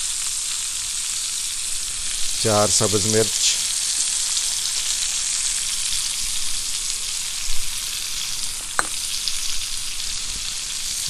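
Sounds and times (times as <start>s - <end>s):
fish sizzling on a griddle: 0.0s - 11.0s.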